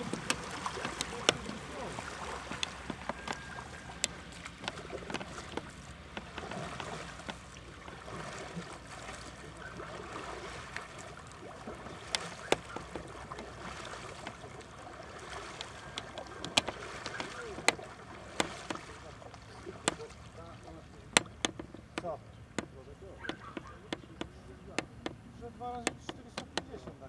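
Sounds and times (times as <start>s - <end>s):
paddle knocking against boat: 0.0s - 27.0s
water swishing and splashing: 0.0s - 27.0s.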